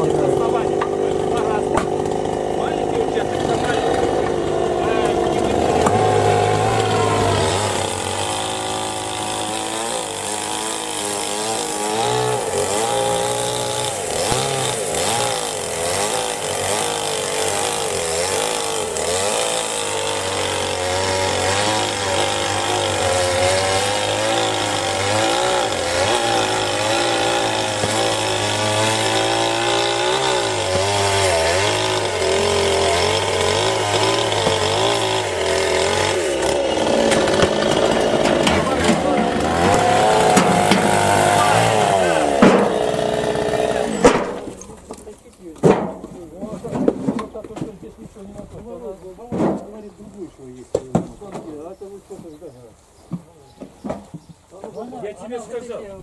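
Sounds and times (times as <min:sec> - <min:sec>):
chainsaw cutting logs: 0:00.0 - 0:52.4.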